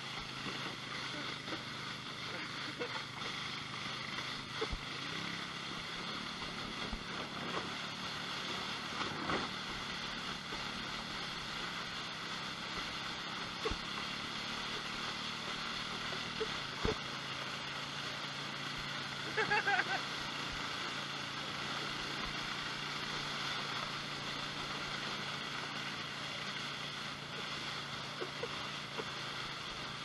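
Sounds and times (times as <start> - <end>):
muffled engine drone: 0.0 - 30.0
rushing water noise: 0.0 - 30.0.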